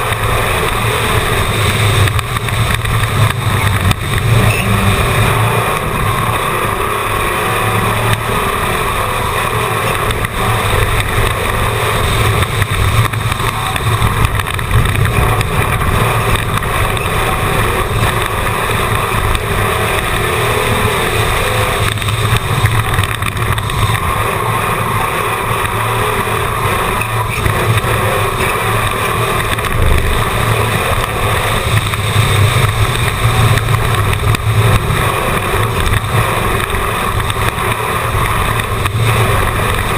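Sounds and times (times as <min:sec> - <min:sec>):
race car engine running hard: 0:00.0 - 0:39.9
road and wind noise: 0:00.0 - 0:39.9.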